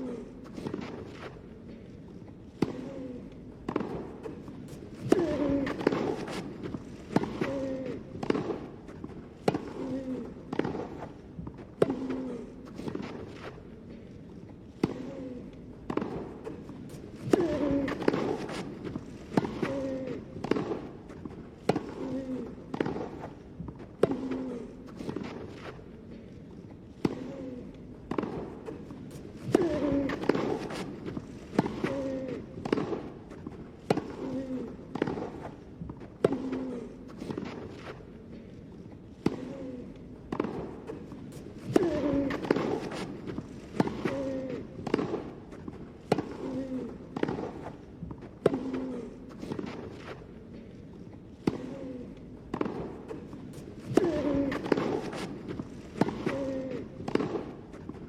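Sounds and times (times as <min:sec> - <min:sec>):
racket striking tennis ball: 0:03.6 - 0:13.6, 0:15.8 - 0:25.8, 0:28.1 - 0:38.1, 0:40.3 - 0:50.2, 0:51.4 - 0:58.0.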